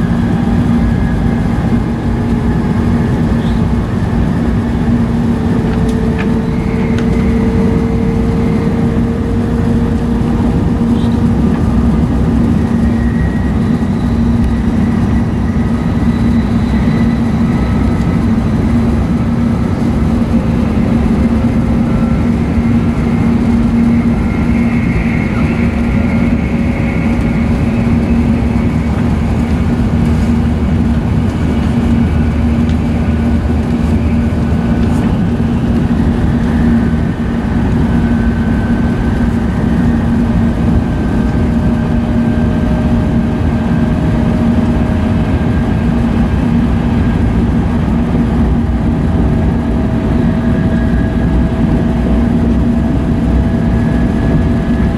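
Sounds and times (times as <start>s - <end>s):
constant hum: 0.0s - 54.9s
faint whining tones: 0.0s - 54.9s
train rolling rumble: 0.0s - 54.9s.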